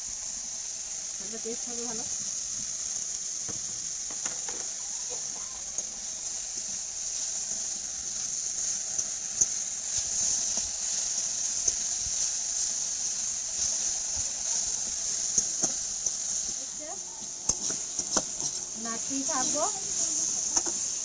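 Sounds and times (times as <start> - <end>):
vegetables sizzling in oil: 0.0 - 21.0
spatula scraping wok: 3.4 - 21.0.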